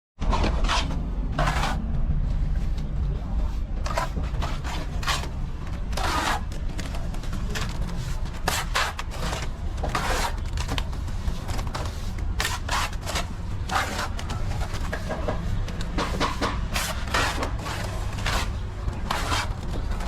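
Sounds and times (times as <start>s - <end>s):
trowel scraping plaster: 0.3s - 1.8s, 3.8s - 20.0s.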